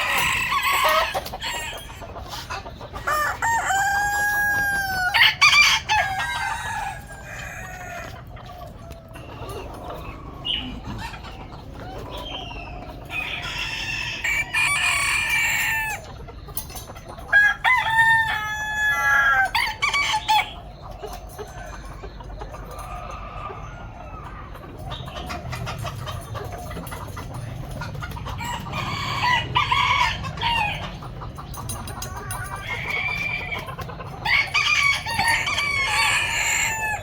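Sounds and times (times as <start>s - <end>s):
chicken clucking: 0.0s - 37.0s
roosters crowing: 0.0s - 37.0s.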